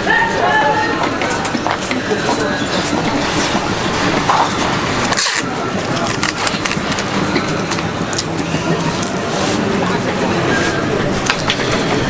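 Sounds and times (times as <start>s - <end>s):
steady market din: 0.0s - 12.0s.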